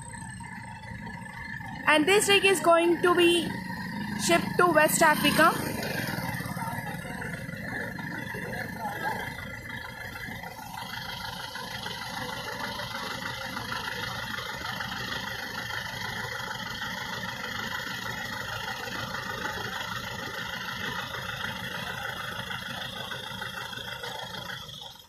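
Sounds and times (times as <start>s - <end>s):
heavy engine idling: 0.0s - 25.0s.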